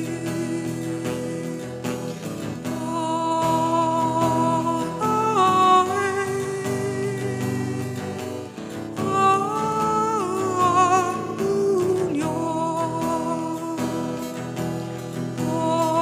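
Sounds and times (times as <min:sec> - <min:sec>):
instrumental accompaniment: 0:00.0 - 0:16.0
person singing slow melody: 0:00.0 - 0:16.0.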